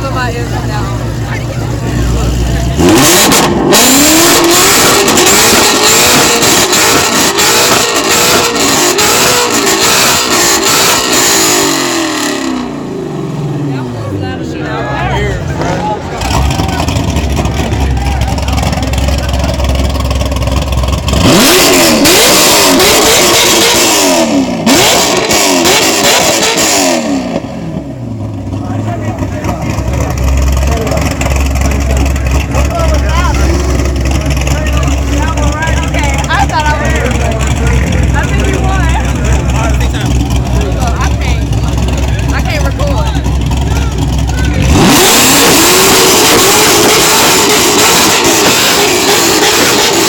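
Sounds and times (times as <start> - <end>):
car engine revving with crackles: 0.0 - 14.5, 15.2 - 50.0.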